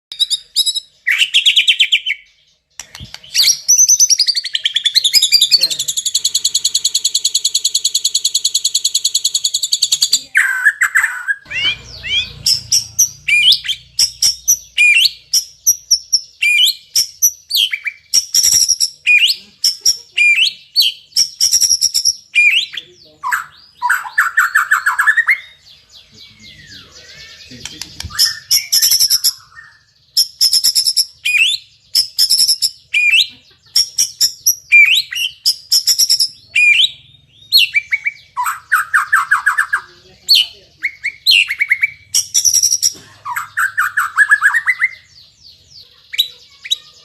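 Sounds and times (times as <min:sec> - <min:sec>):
songbird singing varied song: 0:00.1 - 0:47.0.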